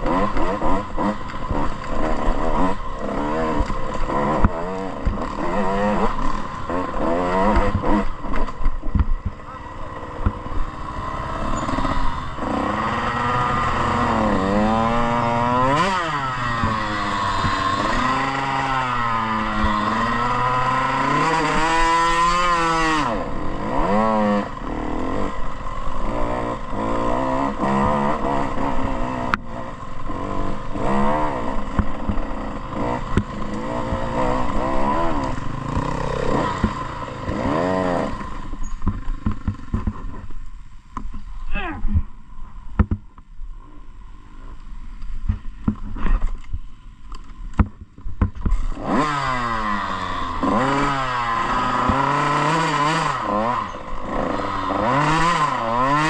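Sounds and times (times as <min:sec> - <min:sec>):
motocross bike engine revving: 0:00.0 - 0:40.3, 0:47.6 - 0:56.0.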